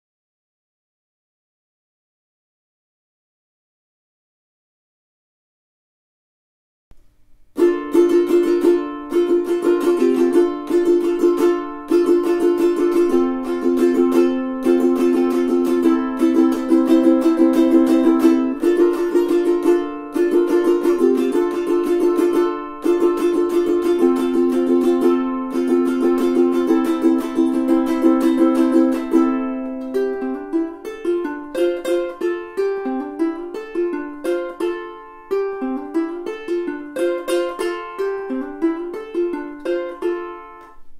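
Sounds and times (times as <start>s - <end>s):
ukulele picked single notes: 6.9s - 40.9s
ukulele strummed chords: 6.9s - 40.9s.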